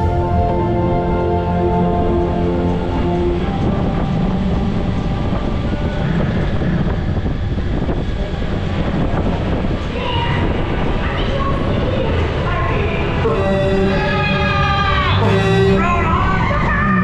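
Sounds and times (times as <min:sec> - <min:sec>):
rushing air: 0:00.0 - 0:16.4
ride vehicle rolling rumble: 0:00.0 - 0:17.0.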